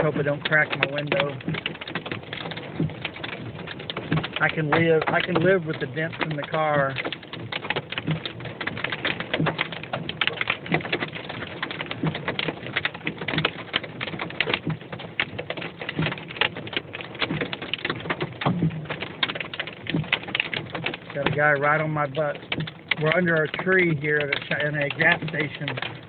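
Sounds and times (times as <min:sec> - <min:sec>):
hail hitting car roof: 0:00.0 - 0:26.0.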